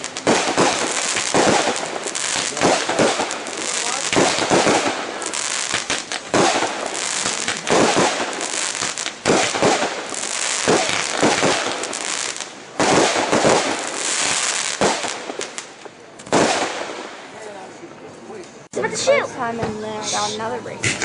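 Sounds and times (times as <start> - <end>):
firework bangs: 0.0 - 17.4
fireworks crackling and fizzing: 0.0 - 17.8.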